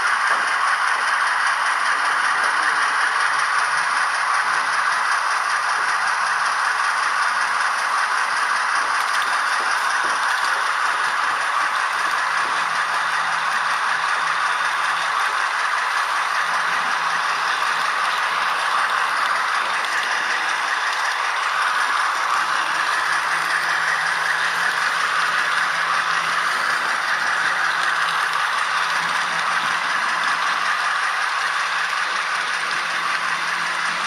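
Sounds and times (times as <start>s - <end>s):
model train wheels rattling on rails: 0.0s - 34.0s
motor gearing: 0.0s - 34.0s.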